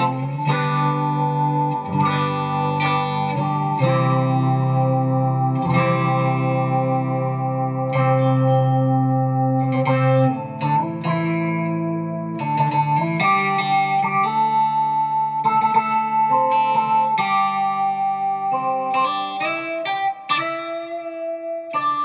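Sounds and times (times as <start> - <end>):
sustained synth guitar chords: 0.0 - 22.0.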